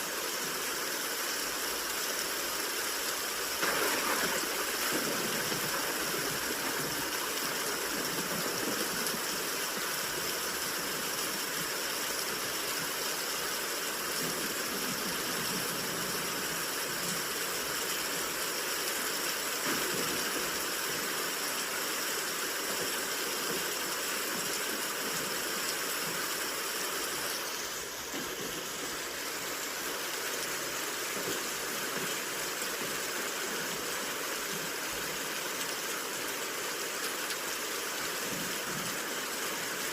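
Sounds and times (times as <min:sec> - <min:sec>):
rain hiss: 0:00.0 - 0:39.9
white noise: 0:00.0 - 0:39.9.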